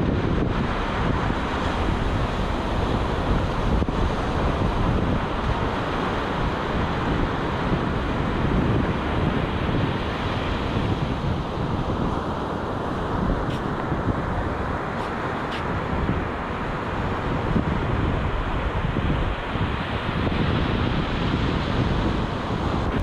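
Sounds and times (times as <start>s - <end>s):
surf breaking on shore: 0.0s - 23.0s
wind buffeting microphone: 0.0s - 23.0s.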